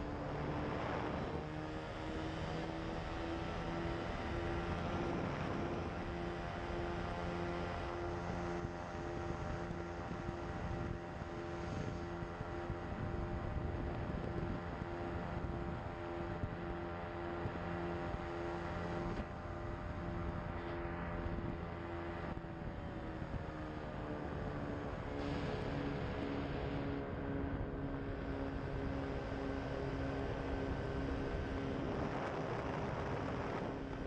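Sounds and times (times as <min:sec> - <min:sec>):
light aircraft engine and propeller: 0:00.0 - 0:34.0.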